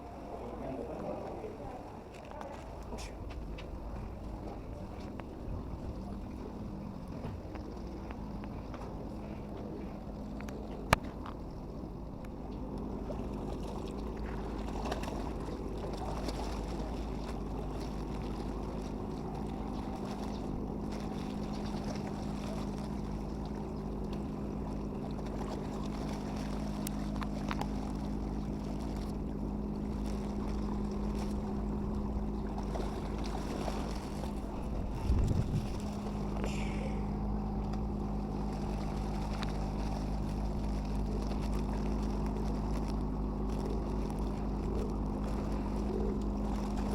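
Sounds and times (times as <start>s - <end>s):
engine humming steadily: 0.0s - 46.9s
engine rumble: 0.0s - 46.9s.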